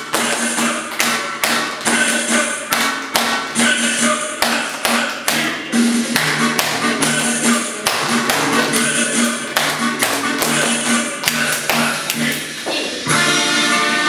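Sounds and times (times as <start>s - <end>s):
children clapping in rhythm: 0.0s - 12.8s
upbeat dance music: 0.0s - 14.0s.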